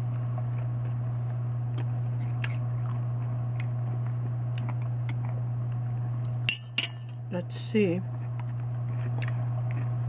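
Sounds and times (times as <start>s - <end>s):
chewing crunchy pickle: 0.0s - 6.5s, 8.1s - 10.0s
low hum: 0.0s - 10.0s.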